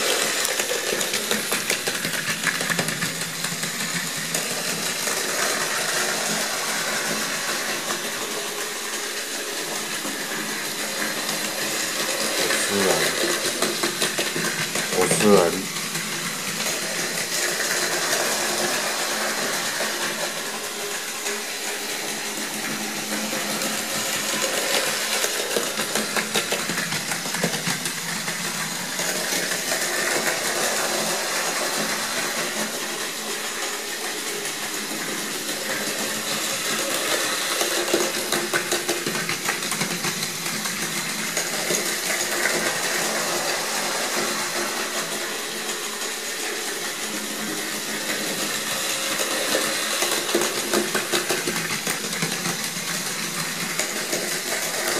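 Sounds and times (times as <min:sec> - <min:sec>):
toy train motor whirring: 0:00.0 - 0:54.9
wheels clicking and rattling on track: 0:00.0 - 0:54.9.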